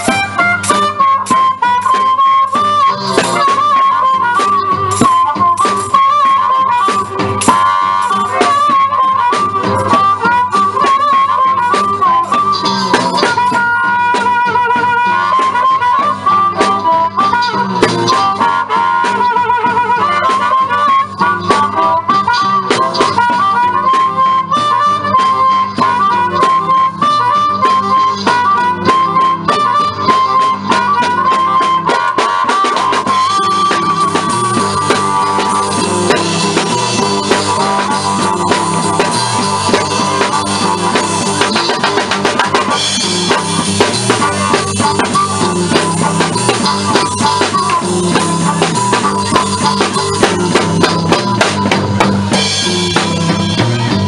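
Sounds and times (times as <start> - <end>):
blues band playing: 0.0 - 54.0
harmonica soloing: 0.0 - 54.0.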